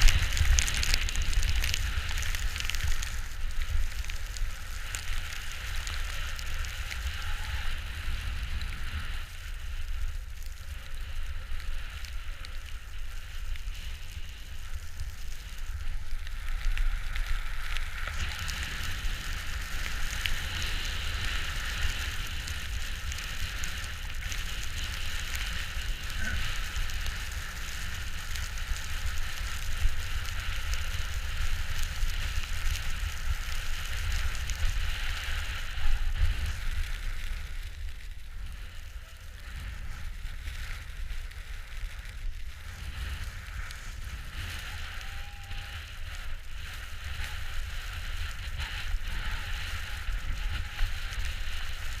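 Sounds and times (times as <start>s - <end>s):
skis carving over snow: 0.0s - 52.0s
wind rumbling on microphone: 0.0s - 52.0s.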